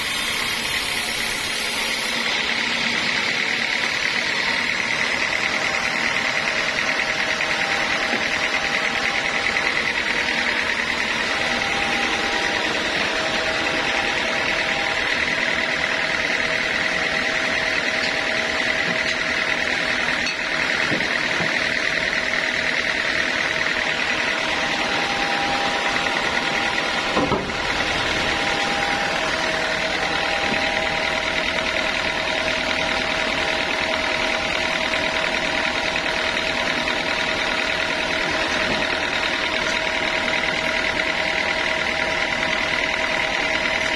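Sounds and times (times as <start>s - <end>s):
sawmill saw whining: 0.0s - 43.9s.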